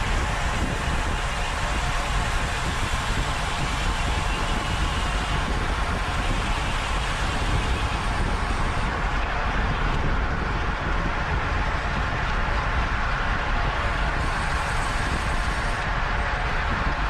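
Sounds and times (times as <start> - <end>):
road noise: 0.0 - 17.0
wind buffeting microphone: 0.0 - 17.0
wind rush: 0.0 - 17.0.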